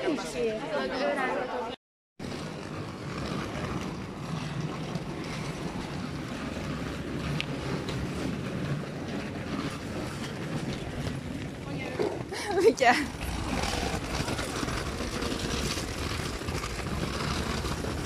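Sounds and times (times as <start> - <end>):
faint footsteps on pavement: 2.2 - 18.0.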